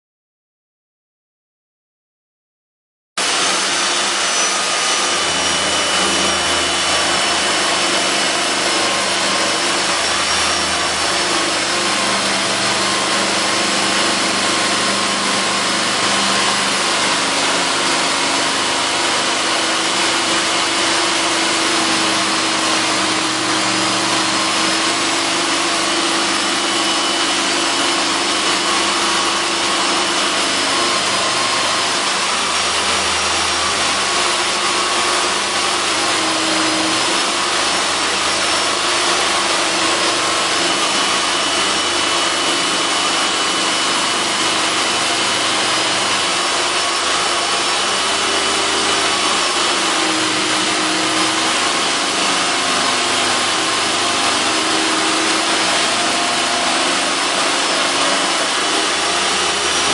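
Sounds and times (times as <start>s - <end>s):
jigsaw cutting wood: 3.2s - 59.9s
vacuum extractor running: 3.2s - 59.9s.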